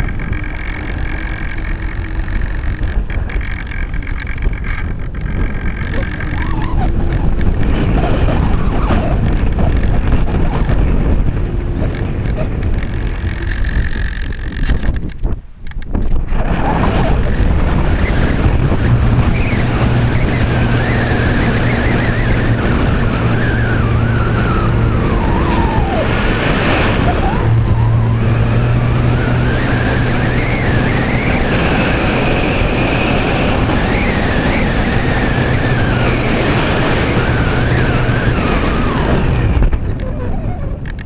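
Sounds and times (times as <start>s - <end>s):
wind rushing: 0.0s - 40.9s
electric motor and propeller whine: 0.0s - 41.0s.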